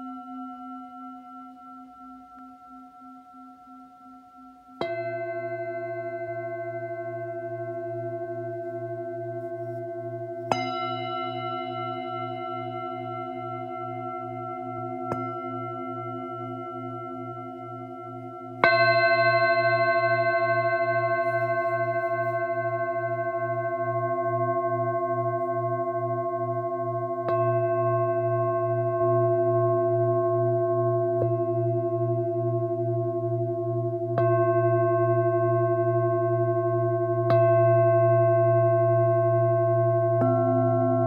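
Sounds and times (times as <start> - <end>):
singing bowls struck and ringing: 0.0 - 41.0.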